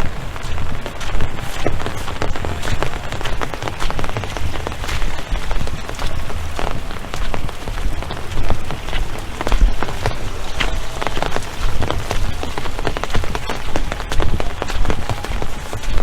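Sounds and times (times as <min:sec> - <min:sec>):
raindrops ticking near microphone: 0:00.0 - 0:16.0.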